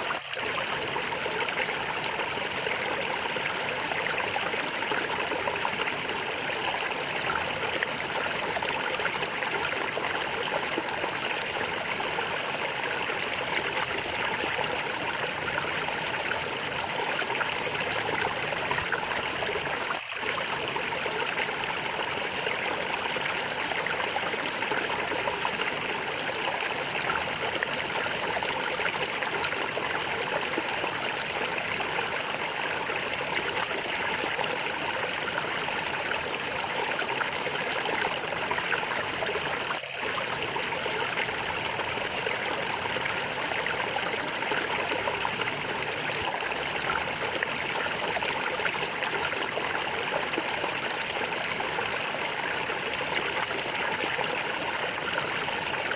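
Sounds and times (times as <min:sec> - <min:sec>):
water gurgling and trickling: 0:00.0 - 0:55.9.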